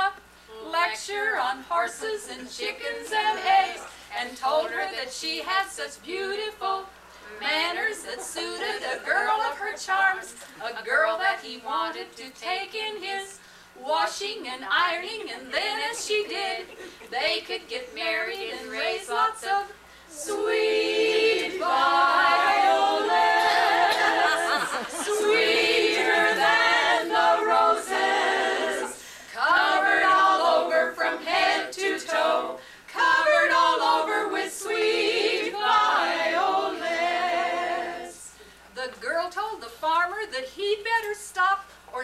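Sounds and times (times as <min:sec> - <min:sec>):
group singing a cappella: 0:00.0 - 0:38.5.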